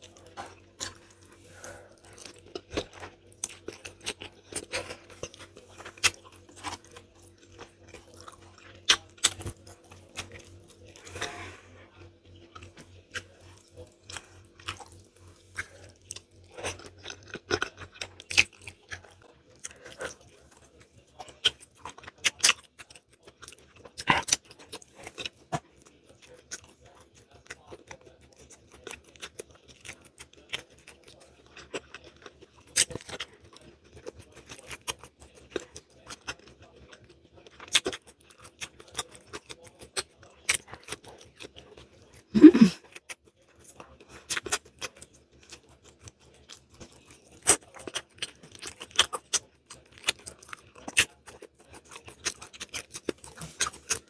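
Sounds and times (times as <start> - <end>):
chewing and wet mouth sounds: 0.0 - 54.0.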